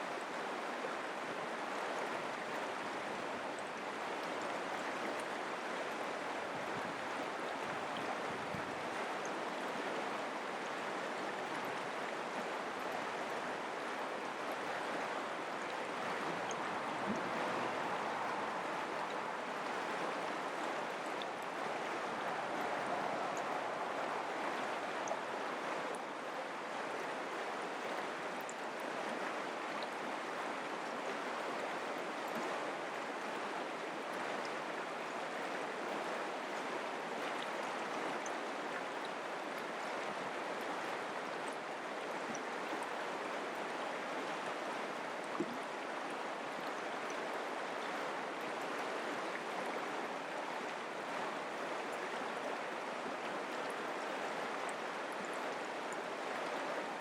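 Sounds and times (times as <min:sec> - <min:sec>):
creek flowing over rocks: 0:00.0 - 0:57.0.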